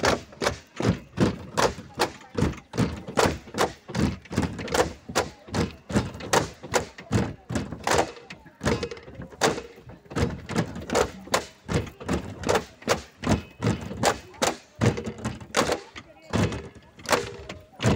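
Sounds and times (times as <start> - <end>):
bamboo poles knocking: 0.0 - 17.9.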